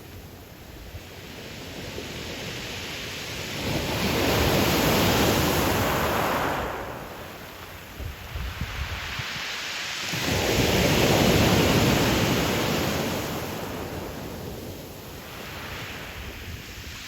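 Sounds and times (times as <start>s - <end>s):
ocean waves crashing on beach: 0.0s - 17.0s.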